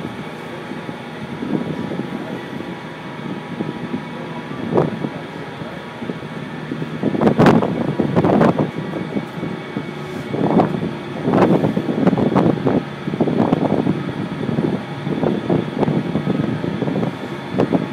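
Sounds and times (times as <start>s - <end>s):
boat engine running: 0.0s - 17.9s
wind buffeting microphone: 0.0s - 17.9s.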